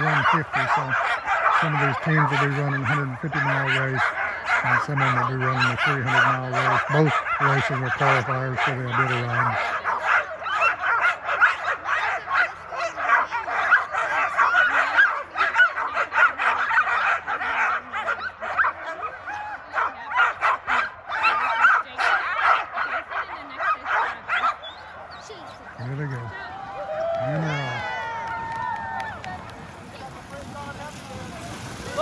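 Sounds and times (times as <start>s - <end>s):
dogs barking and yipping: 0.0s - 32.0s.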